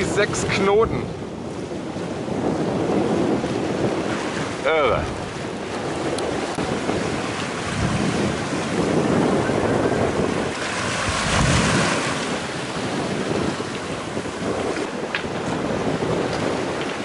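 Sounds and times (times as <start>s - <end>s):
choppy sea splashing: 0.0s - 17.0s
wind buffeting microphone: 0.0s - 17.0s.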